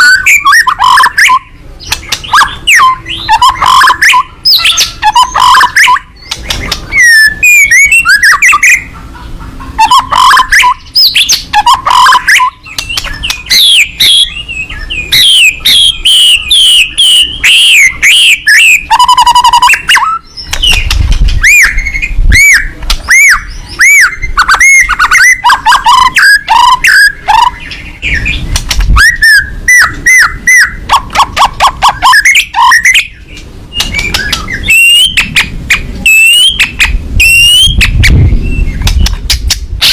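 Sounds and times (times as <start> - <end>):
bird singing whistled phrases: 0.0 - 8.9, 9.8 - 28.4, 29.0 - 35.3.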